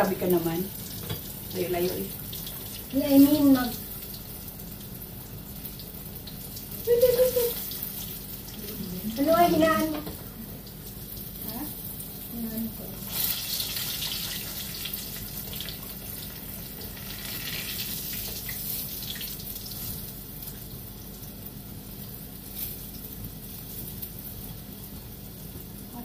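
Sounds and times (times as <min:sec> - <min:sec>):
pork sizzling in a pot: 0:00.0 - 0:26.0.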